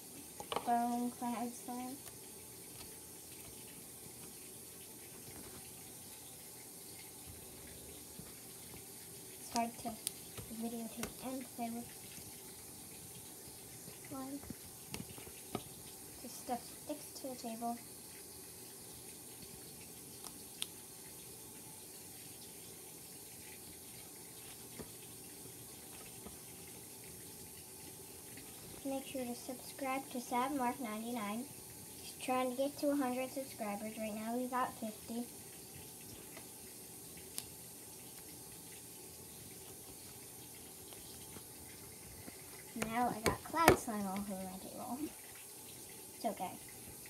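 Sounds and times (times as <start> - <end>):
washing machine filling with water: 0.0 - 47.0.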